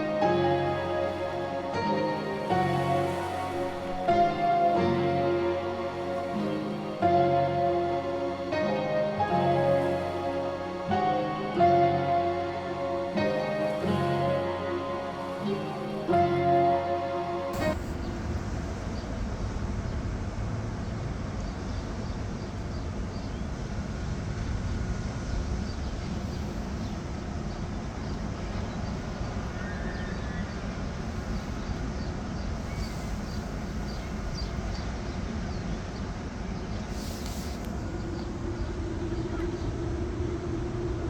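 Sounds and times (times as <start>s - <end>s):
continuous low outdoor rumble: 0.0s - 41.0s.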